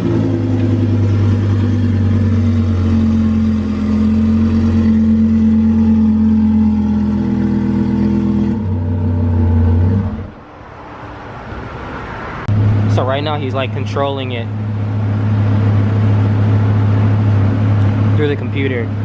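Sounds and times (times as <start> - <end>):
sports car engine revving steadily: 0.0 - 10.5, 12.5 - 19.0.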